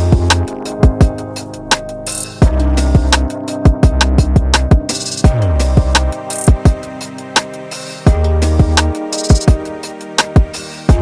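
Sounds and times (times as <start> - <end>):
electronic drum beat and bass: 0.0 - 11.0.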